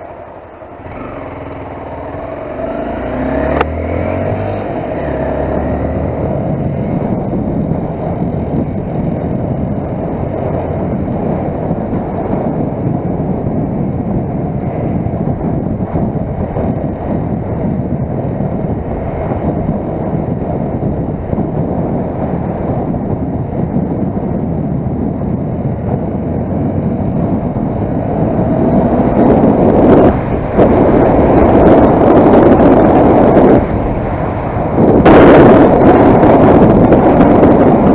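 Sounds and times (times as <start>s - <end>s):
motorcycle engine: 0.0s - 37.9s
wind and road noise: 0.0s - 37.9s.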